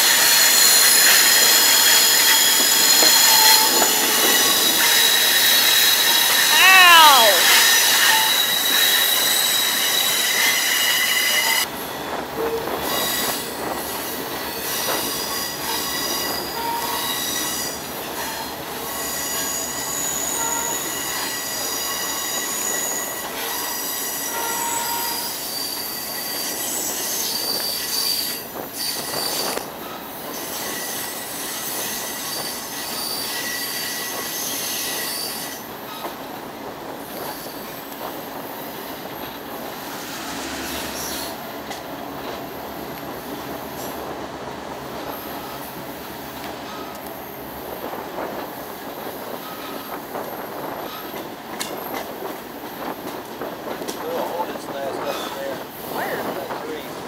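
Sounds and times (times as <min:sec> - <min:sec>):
train wheels squealing: 0:00.0 - 0:06.6, 0:07.4 - 0:36.4, 0:37.0 - 0:41.4, 0:45.0 - 0:57.0
train rolling: 0:00.0 - 0:57.0.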